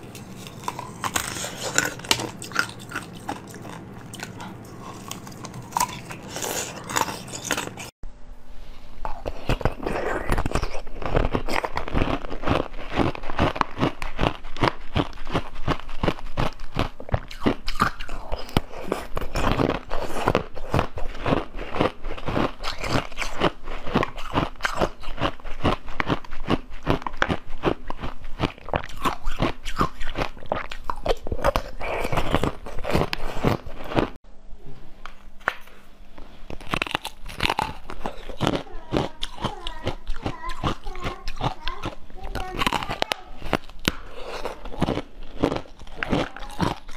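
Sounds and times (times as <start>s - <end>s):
crunching and chewing: 0.0s - 7.9s, 9.1s - 34.2s, 36.5s - 46.9s
wet mouth sounds: 0.0s - 7.9s, 9.0s - 34.2s, 36.6s - 46.9s.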